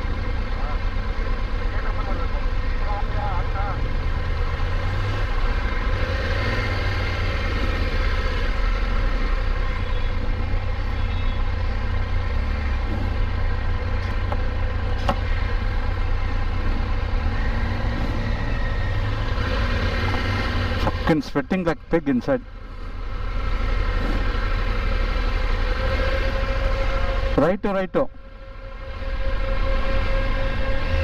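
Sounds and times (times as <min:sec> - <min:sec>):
motorcycle engine running: 0:00.0 - 0:27.4.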